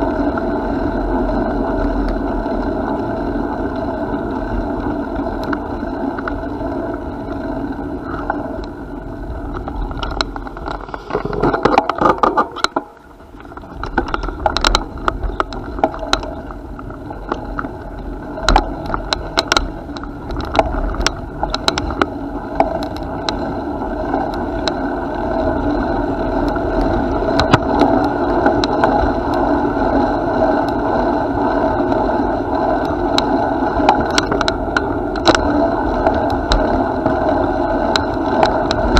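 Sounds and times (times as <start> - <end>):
bicycle clicks and rattles: 0.0 - 38.9
bicycle tyres rolling: 0.0 - 38.9.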